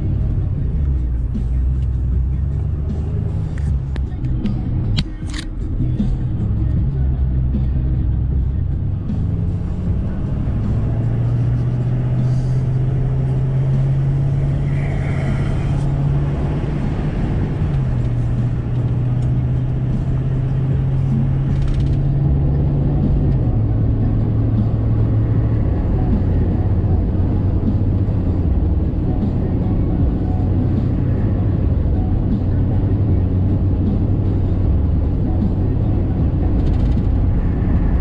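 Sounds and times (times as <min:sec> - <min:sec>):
diesel engine drone: 0:00.0 - 0:38.0
road and tyre noise: 0:00.0 - 0:38.0.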